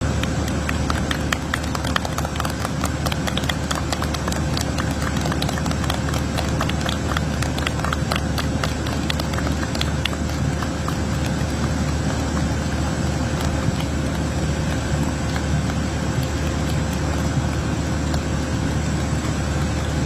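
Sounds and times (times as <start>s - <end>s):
jet engines humming: 0.0s - 20.0s.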